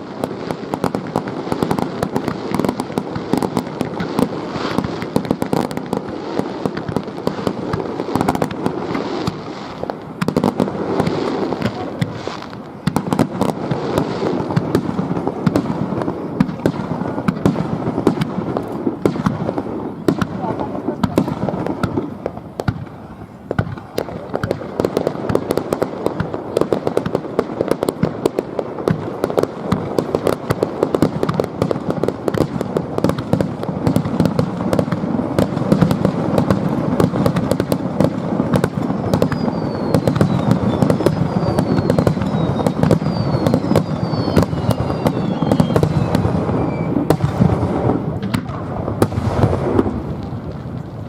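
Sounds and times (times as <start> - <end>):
falling firework whistles: 0.0 - 51.0
fireworks bursting and crackling: 0.0 - 51.0.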